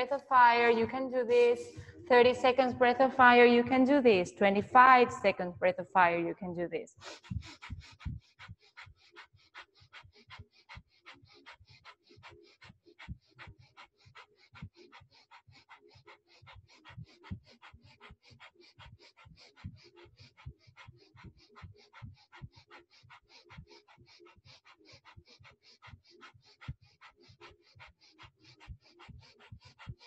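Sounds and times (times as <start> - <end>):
woman breathing rapidly through nose: 1.5 - 3.7, 6.9 - 30.0.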